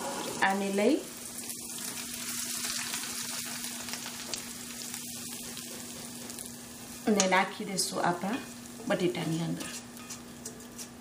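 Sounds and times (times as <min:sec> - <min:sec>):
oil and spices sizzling in a wok: 0:00.0 - 0:11.0.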